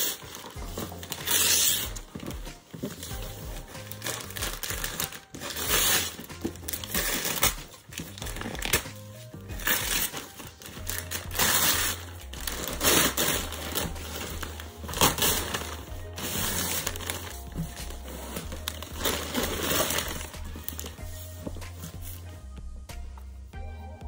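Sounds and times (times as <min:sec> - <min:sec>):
gift wrap crinkling and tearing: 0:00.0 - 0:22.3
background music with bass line: 0:00.0 - 0:24.0.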